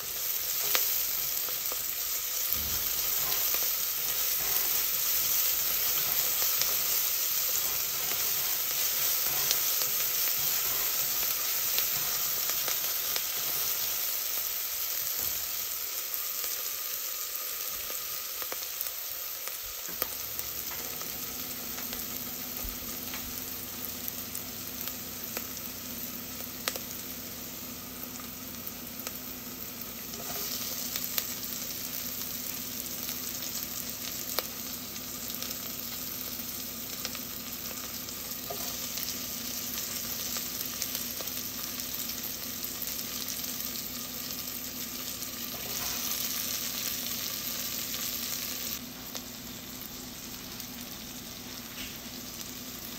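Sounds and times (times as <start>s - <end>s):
onion sizzling in hot oil: 0.0s - 52.9s.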